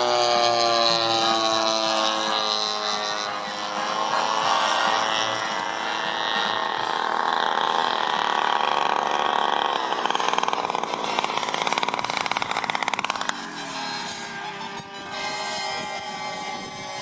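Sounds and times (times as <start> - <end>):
model airplane engine: 0.0 - 17.0.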